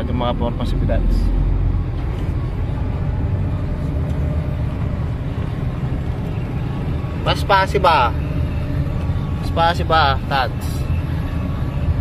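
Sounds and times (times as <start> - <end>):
diesel truck engine droning: 0.0 - 12.0
road noise: 0.0 - 12.0.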